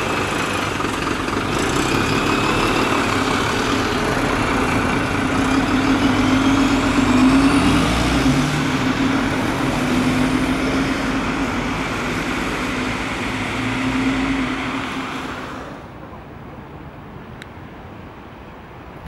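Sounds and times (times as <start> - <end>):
heavy vehicle passing: 0.0 - 16.0.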